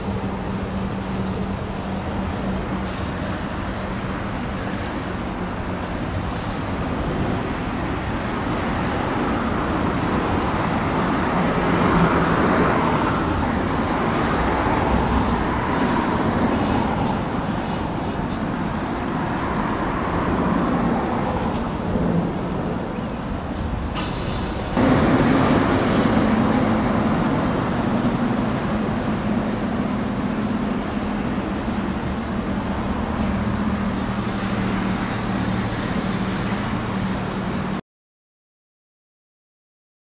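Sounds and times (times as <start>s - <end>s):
distant road traffic: 0.0s - 37.8s
wind: 0.0s - 37.8s.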